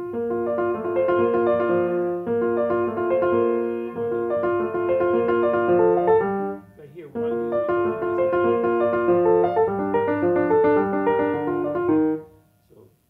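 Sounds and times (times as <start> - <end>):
grand piano playing even notes: 0.0 - 12.4.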